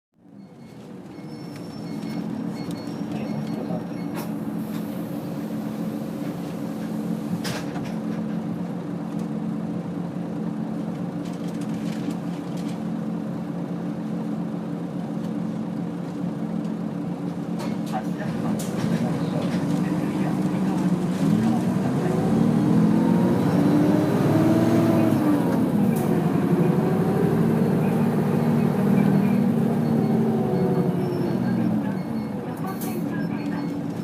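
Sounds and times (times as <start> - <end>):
bus diesel engine droning: 0.2 - 34.0.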